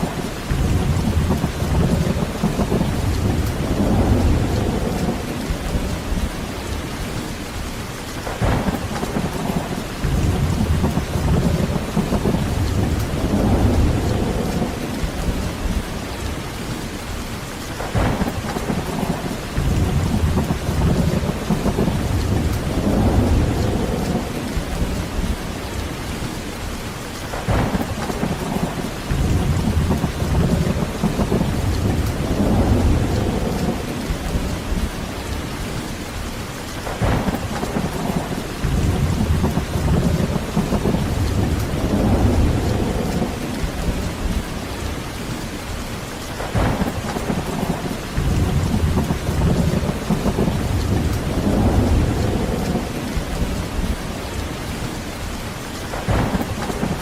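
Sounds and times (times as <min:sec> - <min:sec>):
heavy rain: 0:00.0 - 0:57.0
thunder rumbling: 0:00.0 - 0:57.0.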